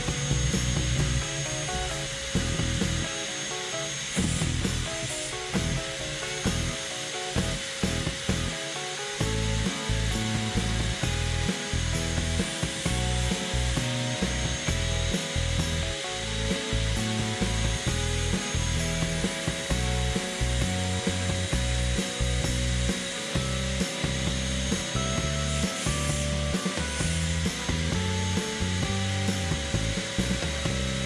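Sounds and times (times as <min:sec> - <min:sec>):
pulsing low bass: 0:00.0 - 0:03.1, 0:03.8 - 0:08.6, 0:09.2 - 0:31.0.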